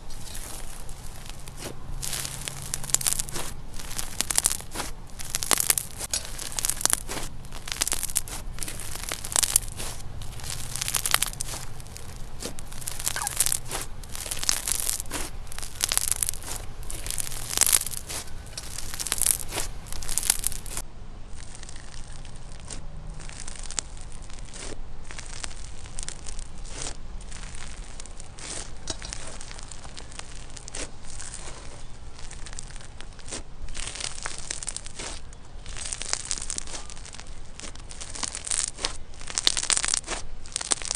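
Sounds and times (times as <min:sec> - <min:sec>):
slime crackling and popping: 0:00.0 - 0:40.9.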